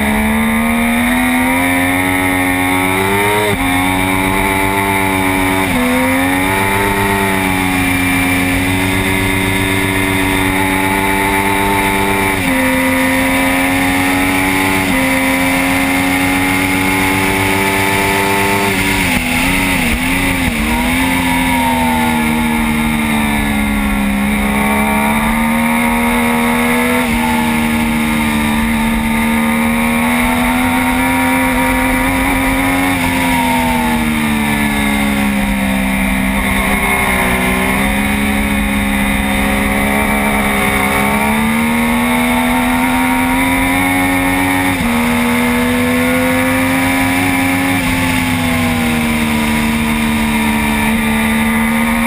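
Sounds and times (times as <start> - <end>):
motorcycle engine revving through gears: 0.0 - 52.0.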